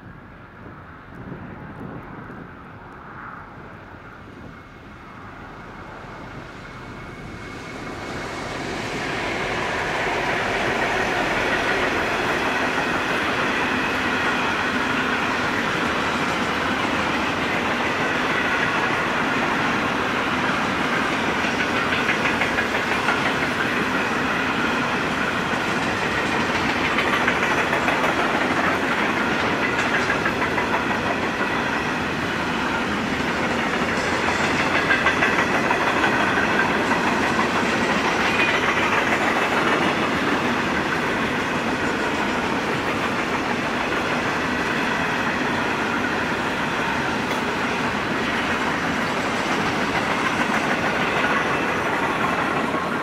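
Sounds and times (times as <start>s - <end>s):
diesel locomotives passing: 0.0s - 53.0s
train wheels rumbling on rail: 0.0s - 53.0s.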